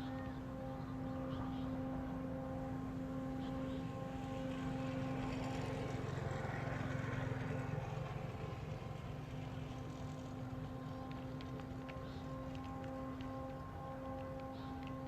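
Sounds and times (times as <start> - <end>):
kite flute steady low tone: 0.0 - 15.0.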